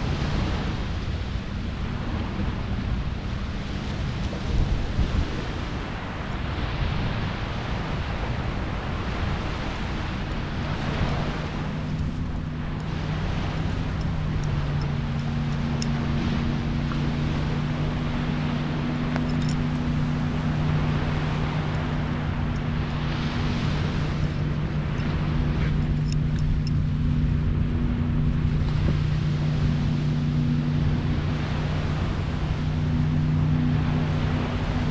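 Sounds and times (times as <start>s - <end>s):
low engine hum: 0.0s - 34.9s
surf washing: 0.0s - 34.9s.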